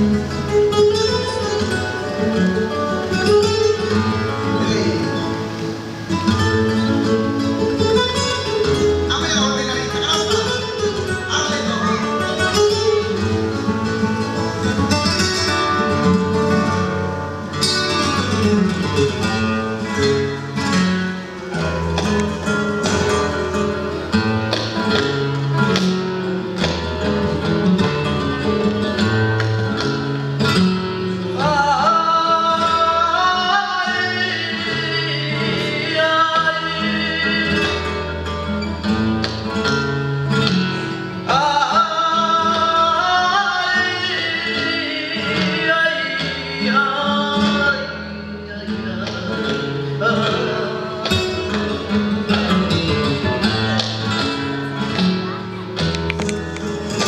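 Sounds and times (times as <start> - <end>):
acoustic guitar playing: 0.0 - 57.0.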